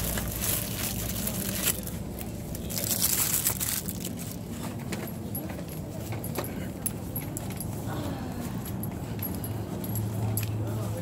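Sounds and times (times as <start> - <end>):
rustling handling noise: 0.0 - 11.0
steady low hum: 0.0 - 11.0.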